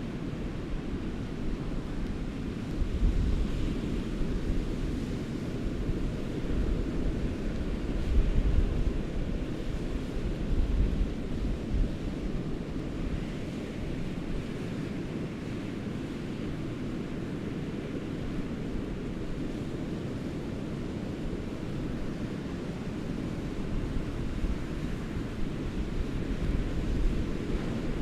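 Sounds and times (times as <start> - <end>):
hurricane wind rushing: 0.0 - 28.0
wind gusts buffeting microphone: 0.3 - 15.7, 16.3 - 28.0.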